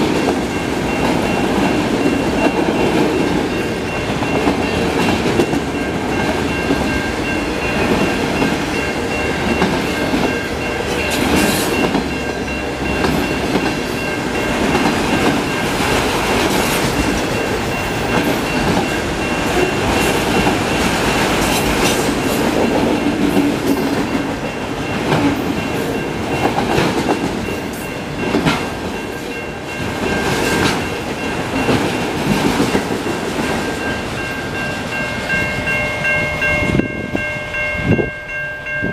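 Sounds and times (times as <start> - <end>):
wheels clacking over rail joints: 0.0 - 35.8
crossing bell ringing: 0.0 - 38.9
freight train rolling past: 0.0 - 38.9
train clanks: 0.0 - 38.9.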